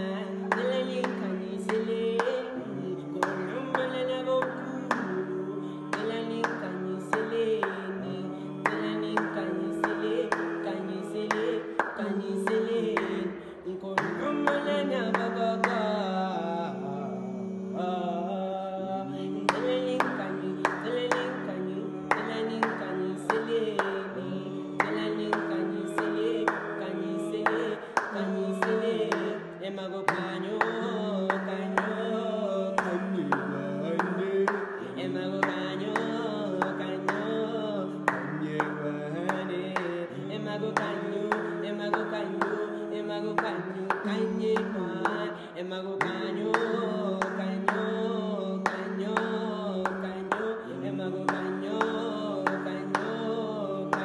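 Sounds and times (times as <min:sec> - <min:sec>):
hand claps on the beat: 0:00.0 - 0:16.0, 0:19.2 - 0:54.0
male voices singing in harmony: 0:00.0 - 0:54.0.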